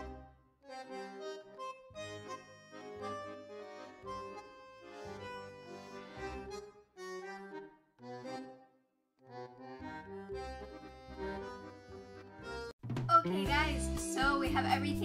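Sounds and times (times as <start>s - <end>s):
instrumental background music: 0.0s - 8.7s, 9.3s - 15.0s.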